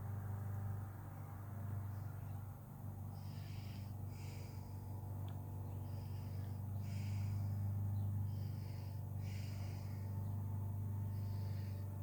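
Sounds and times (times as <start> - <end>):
soft breath noise: 1.9 - 12.0.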